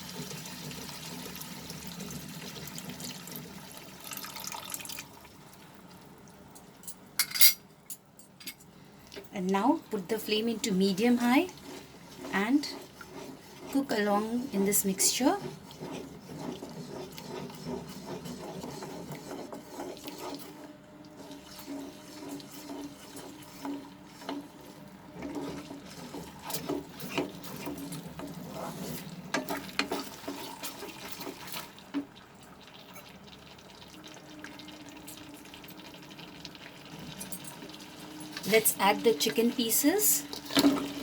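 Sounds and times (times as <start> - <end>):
gravy bubbling in a pan: 0.0 - 6.4, 10.4 - 38.4.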